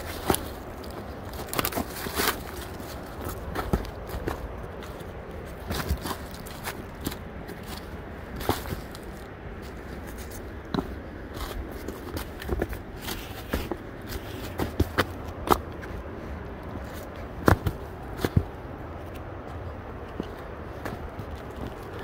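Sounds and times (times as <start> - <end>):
footsteps on a trail: 0.0 - 22.0
low steady rumble: 0.0 - 22.0.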